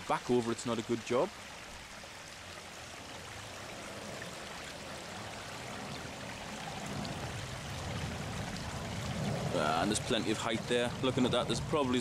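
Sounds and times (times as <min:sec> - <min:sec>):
water trickling over stones: 0:00.0 - 0:12.0.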